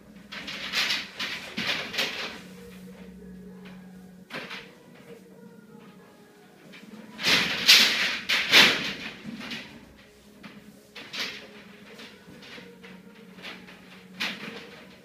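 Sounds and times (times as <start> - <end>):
plastic pipe scraping and rustling: 0.0 - 15.0.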